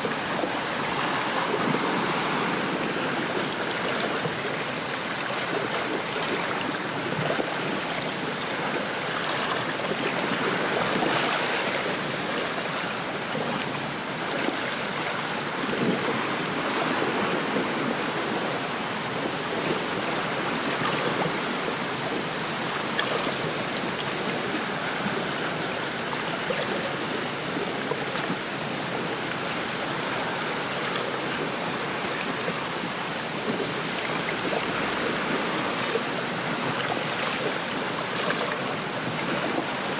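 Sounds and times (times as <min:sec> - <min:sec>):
small waves lapping: 0:00.0 - 0:39.9.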